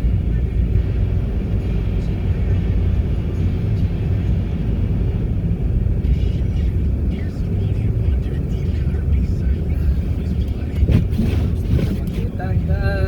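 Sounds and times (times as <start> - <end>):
vehicle driving on snowy road: 0.0 - 13.0.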